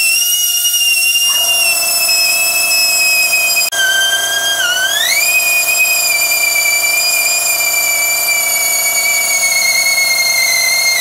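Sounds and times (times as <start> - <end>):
rotary sanding tool whining: 0.0 - 11.0.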